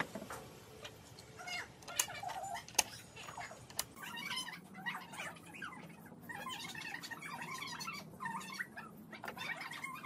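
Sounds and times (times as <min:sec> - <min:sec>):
animal calling: 0:01.4 - 0:10.0.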